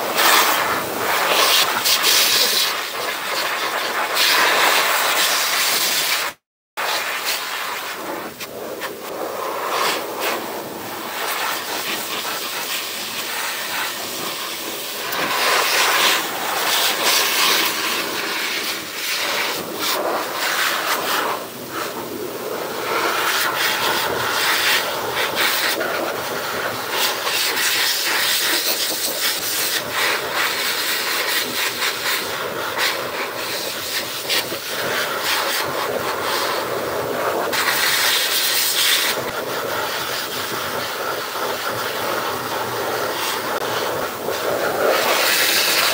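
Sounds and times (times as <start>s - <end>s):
grooming blower rushing air: 0.0s - 45.9s.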